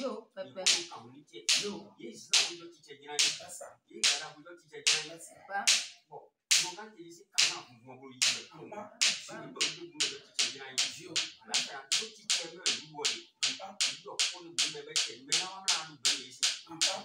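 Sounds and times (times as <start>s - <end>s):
low voice speaking or praying: 0.0s - 5.7s, 6.6s - 17.0s.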